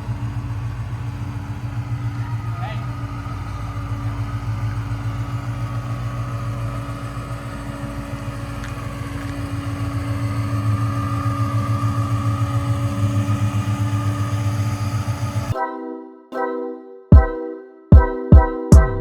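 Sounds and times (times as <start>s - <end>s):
car engine pulsing at low revs: 0.0s - 15.6s, 18.8s - 19.0s.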